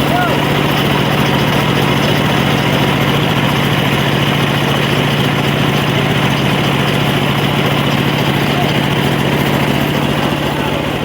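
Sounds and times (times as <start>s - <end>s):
sawmill engine droning: 0.0s - 11.0s.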